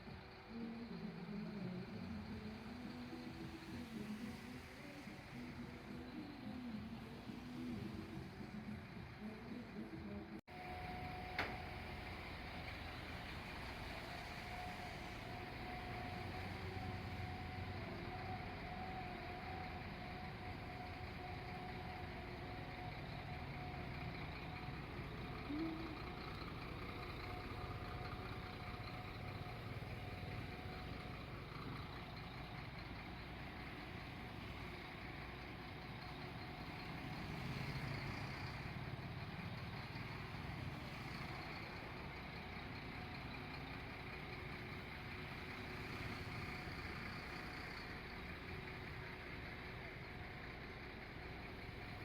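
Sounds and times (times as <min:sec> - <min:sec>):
truck engines idling: 0:00.0 - 0:52.0.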